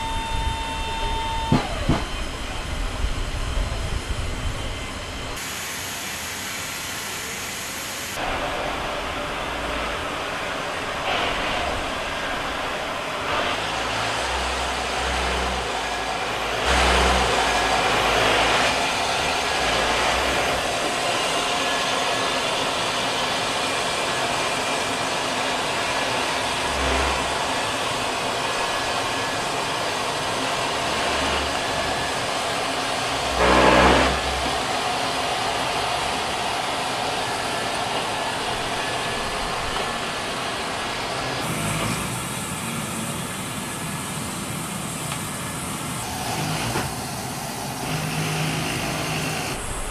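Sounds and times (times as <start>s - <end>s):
tank turbine engine running: 0.0s - 49.9s.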